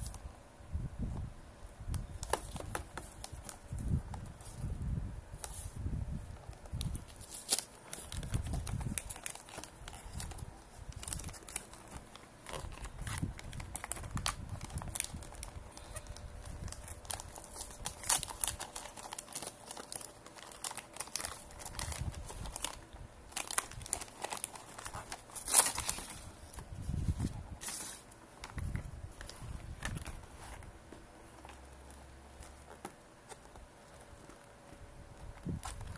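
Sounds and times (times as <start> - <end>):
plastic wrapper crinkling: 5.4 - 35.9.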